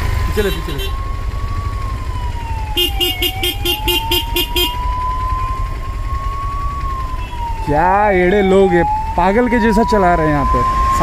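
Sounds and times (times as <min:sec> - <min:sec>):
ambulance siren wailing: 0:00.0 - 0:11.0
low engine rumble: 0:00.0 - 0:11.0.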